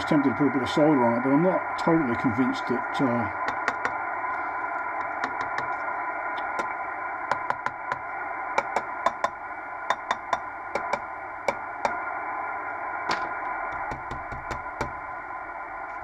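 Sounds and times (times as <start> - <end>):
faint steady tones: 0.0 - 16.0
radio receiver hiss: 0.0 - 16.0.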